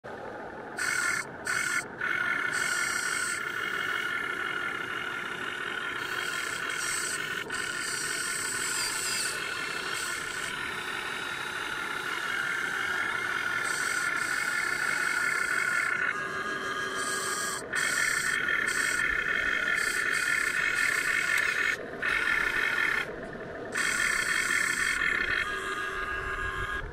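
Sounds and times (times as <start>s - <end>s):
higher-pitched motor whine: 0.8s - 26.9s
toy excavator motors whining: 0.8s - 26.9s.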